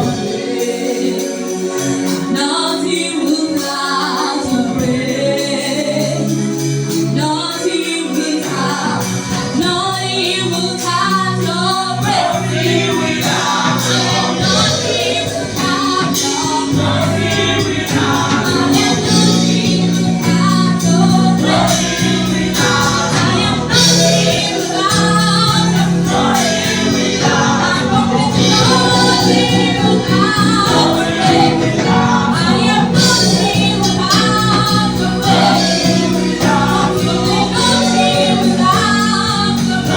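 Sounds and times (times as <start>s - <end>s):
bass: 0.0s - 39.9s
choir singing worship song: 0.0s - 39.9s
instrumental backing with beat: 0.0s - 39.9s.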